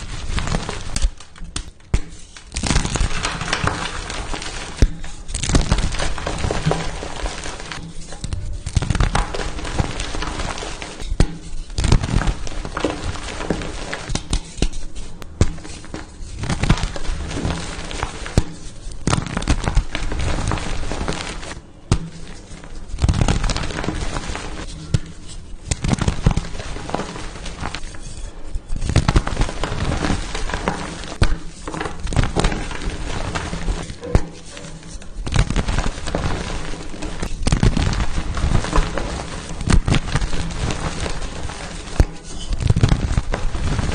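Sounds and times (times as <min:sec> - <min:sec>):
chalk blocks crunching and cracking: 0:00.0 - 0:43.9.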